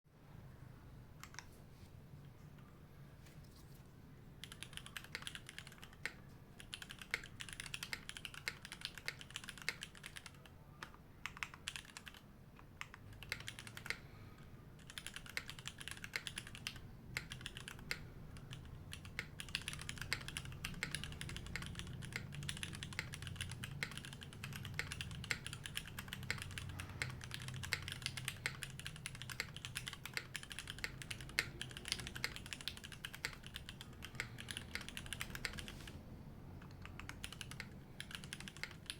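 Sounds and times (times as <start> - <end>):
mechanical keyboard typing: 1.2 - 1.5, 4.4 - 14.1, 14.8 - 36.0, 36.6 - 38.9.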